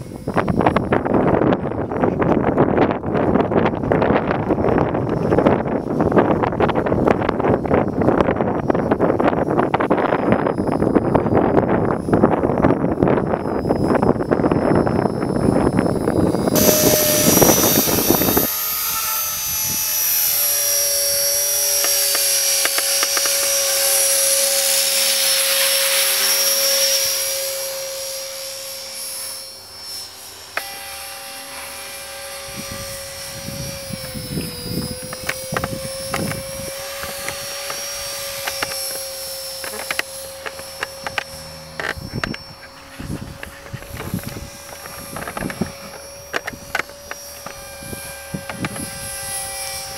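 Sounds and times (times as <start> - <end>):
wind buffeting microphone: 0.0 - 30.0, 31.7 - 49.9
rc helicopter motor and rotors: 0.0 - 49.9.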